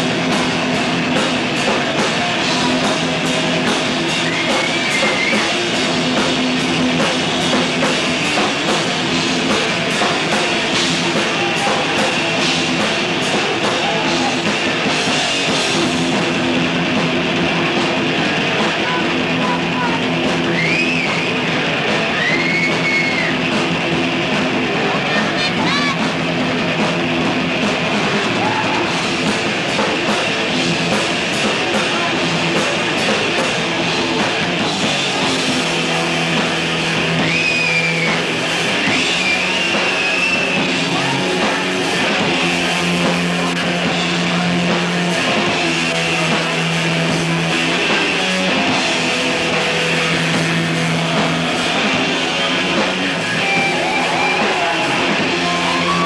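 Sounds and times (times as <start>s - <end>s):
bass guitar: 0.0s - 56.0s
distorted electric guitars: 0.0s - 56.0s
drum kit: 0.0s - 56.0s.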